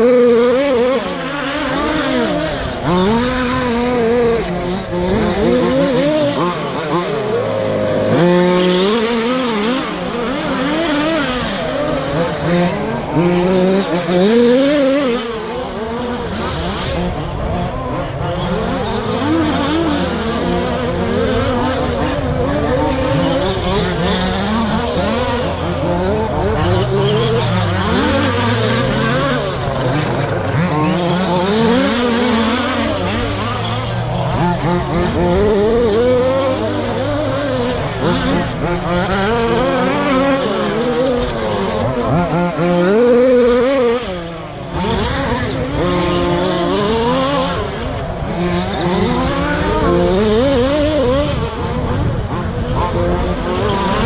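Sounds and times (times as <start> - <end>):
rc truck motors revving: 0.0 - 54.0.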